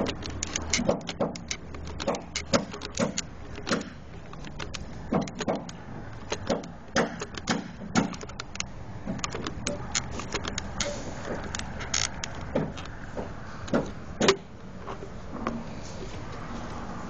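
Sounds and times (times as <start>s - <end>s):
tools and metal parts clicking: 0.0s - 15.0s.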